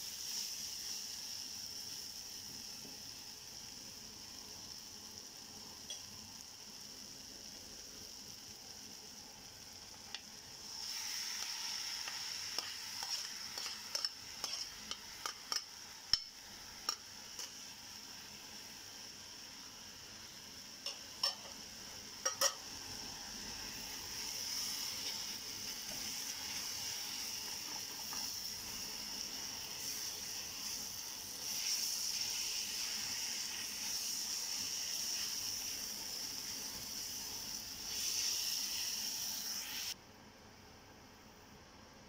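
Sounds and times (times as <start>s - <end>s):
vegetables sizzling in a frying pan: 0.0s - 40.0s.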